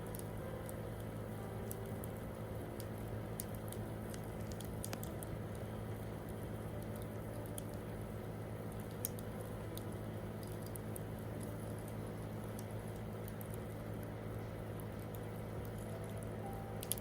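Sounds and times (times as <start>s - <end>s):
campfire crackling: 0.0s - 17.0s
steady low hum: 0.0s - 17.0s.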